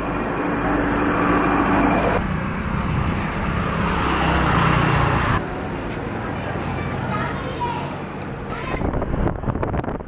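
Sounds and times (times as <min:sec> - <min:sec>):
vehicle engines and road noise: 0:00.0 - 0:10.0.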